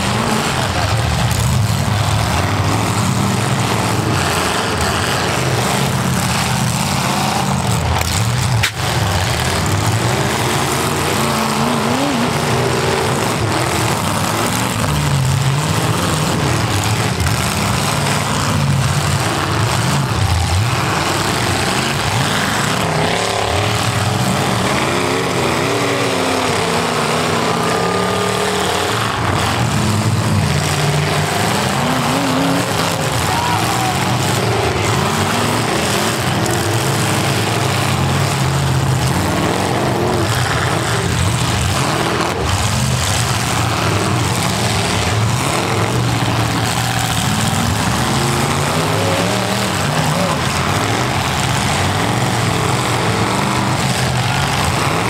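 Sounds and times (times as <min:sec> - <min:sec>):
car engines revving together: 0:00.0 - 0:55.0.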